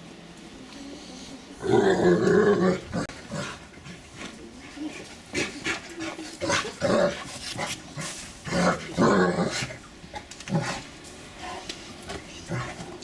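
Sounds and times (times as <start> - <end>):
puppies growling: 1.3 - 13.0.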